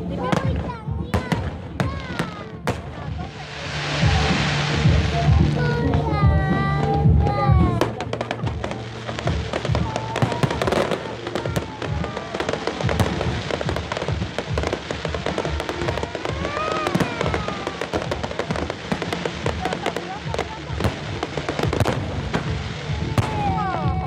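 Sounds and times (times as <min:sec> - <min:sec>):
fireworks crackling and booming: 0:00.0 - 0:24.0
music: 0:00.0 - 0:24.0.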